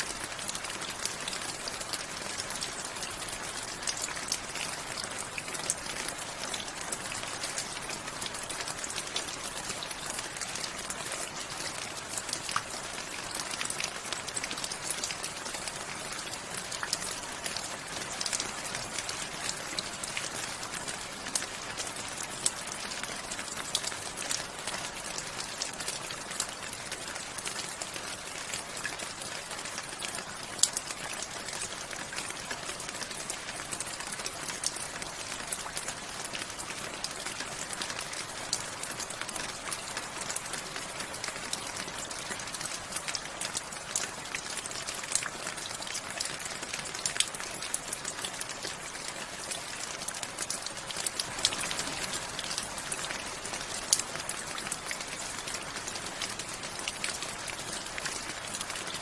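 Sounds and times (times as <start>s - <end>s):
raindrops ticking on hard surface: 0.0s - 59.0s
steady rain hiss: 0.0s - 59.0s.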